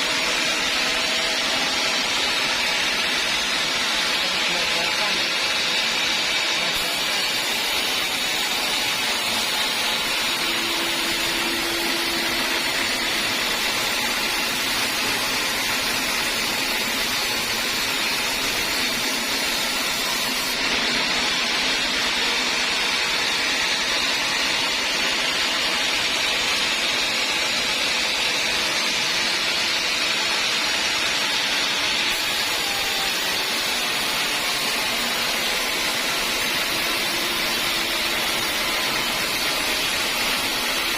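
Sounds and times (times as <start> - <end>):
sawmill saw hissing: 0.0 - 40.9.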